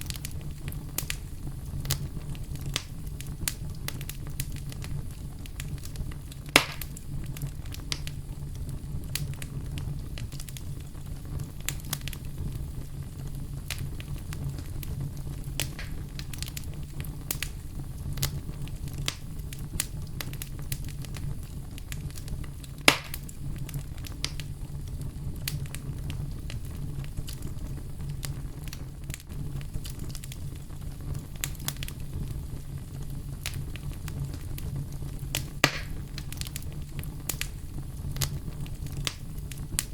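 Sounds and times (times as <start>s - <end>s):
fire snaps and pops: 0.0s - 39.9s
firewood crackling: 0.0s - 39.9s.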